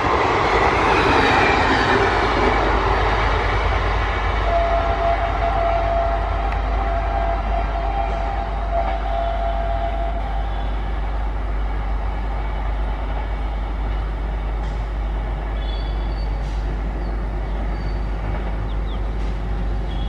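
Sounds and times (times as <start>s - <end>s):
locomotive engine rumbling: 0.0s - 20.0s.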